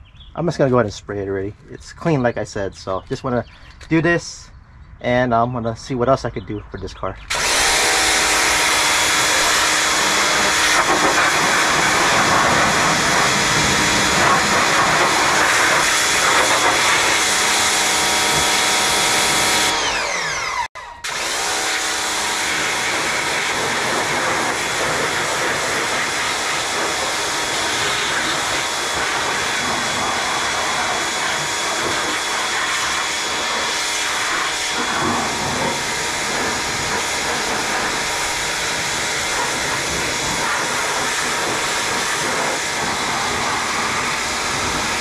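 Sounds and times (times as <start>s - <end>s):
water spraying: 7.3s - 19.8s, 21.2s - 45.0s
pressure washer running: 7.3s - 45.0s.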